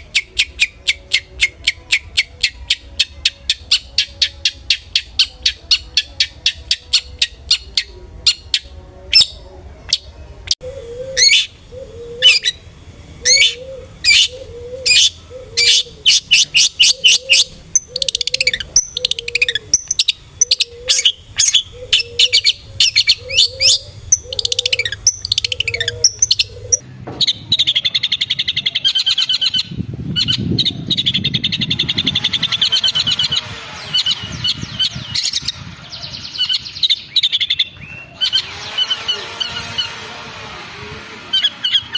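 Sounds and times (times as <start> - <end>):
bird calling and chattering: 0.0 - 40.0, 41.3 - 41.9.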